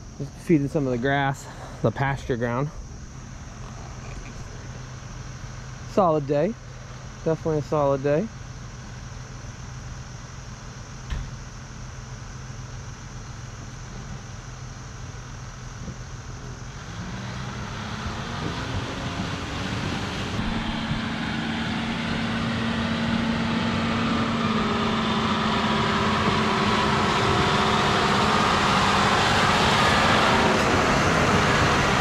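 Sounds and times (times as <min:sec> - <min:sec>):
tractor diesel engine running: 0:00.0 - 0:17.0, 0:19.5 - 0:32.0.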